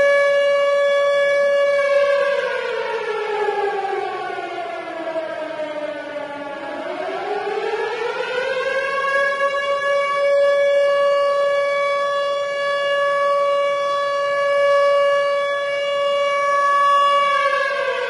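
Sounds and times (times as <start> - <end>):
warning siren: 0.0 - 18.0.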